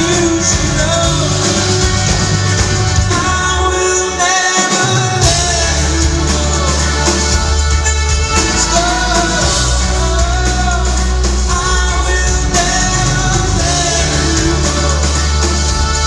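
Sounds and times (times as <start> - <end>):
heavy bass line: 0.0 - 4.2, 5.0 - 16.0
drums: 0.0 - 16.0
man singing: 0.0 - 16.0.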